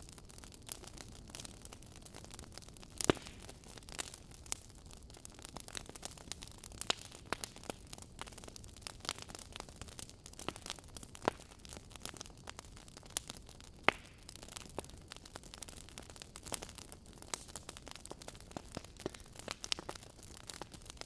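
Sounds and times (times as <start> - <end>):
fireplace logs crackling: 0.1 - 21.0.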